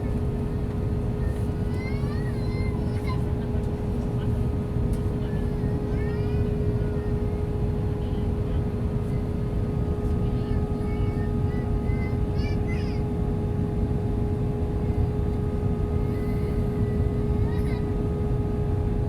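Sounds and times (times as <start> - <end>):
airplane cabin roar: 0.0 - 19.0
faint voices in cabin: 0.0 - 19.0.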